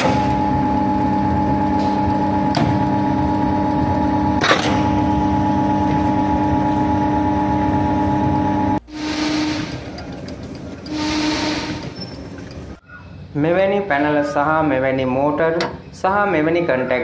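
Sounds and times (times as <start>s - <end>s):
electrical motor hum: 0.0s - 16.3s.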